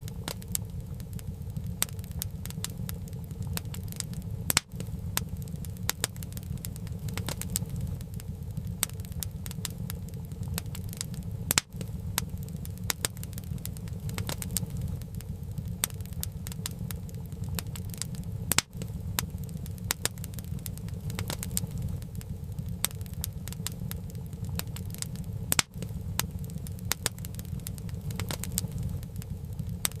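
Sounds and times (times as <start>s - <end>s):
low fire rumble: 0.0s - 30.0s
wood fire crackling and popping: 0.0s - 30.0s.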